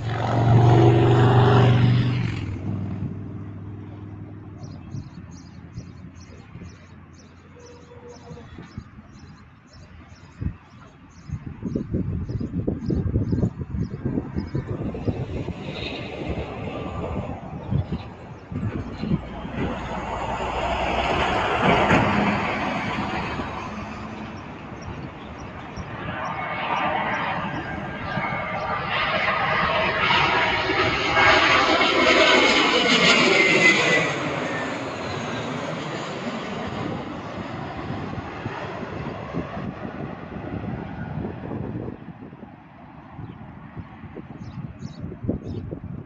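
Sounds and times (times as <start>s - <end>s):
airliner engines passing: 0.0s - 46.0s.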